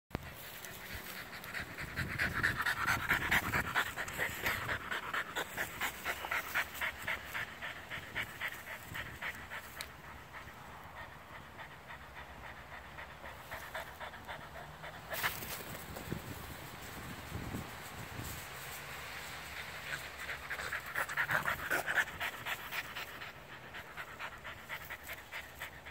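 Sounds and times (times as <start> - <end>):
dog panting: 0.2 - 16.4, 19.0 - 25.9.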